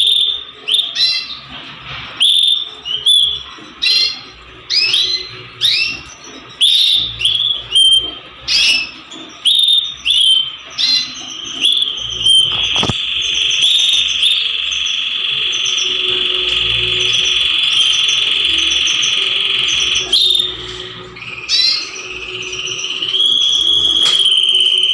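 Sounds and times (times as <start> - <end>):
canary singing and trilling: 0.0 - 24.9.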